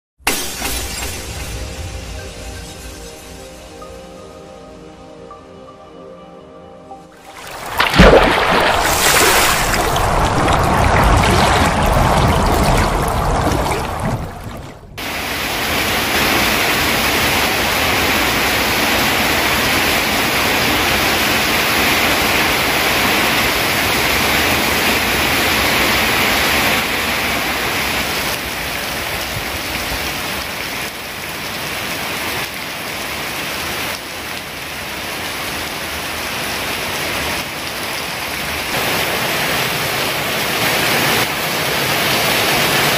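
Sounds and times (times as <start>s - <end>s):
heavy rain pouring: 7.2s - 42.9s.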